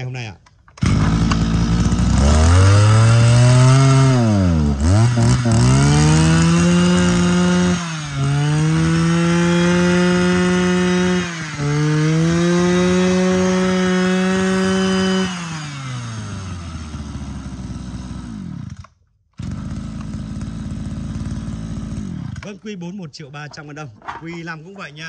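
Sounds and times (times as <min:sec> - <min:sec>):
brush cutter engine revving and idling: 0:00.8 - 0:22.8.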